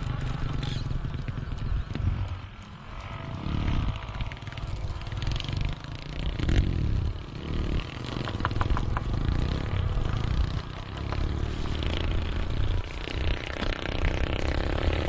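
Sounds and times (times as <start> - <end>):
wheels clattering and scraping: 0.0 - 15.0.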